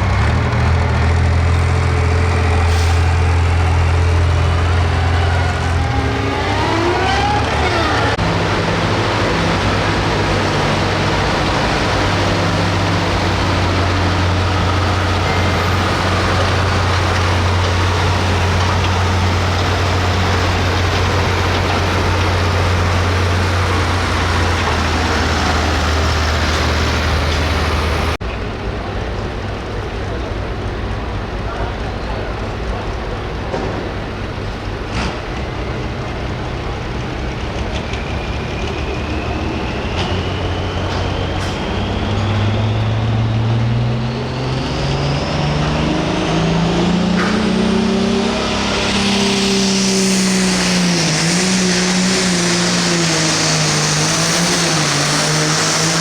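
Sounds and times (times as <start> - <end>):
rising whine: 0.0 - 28.2, 36.8 - 56.0
tractor diesel engine running hard: 0.0 - 56.0.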